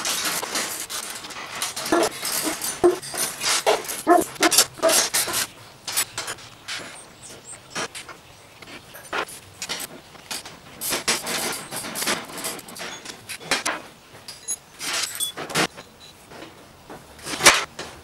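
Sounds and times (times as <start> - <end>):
metal and plastic parts rattling: 0.0 - 16.6.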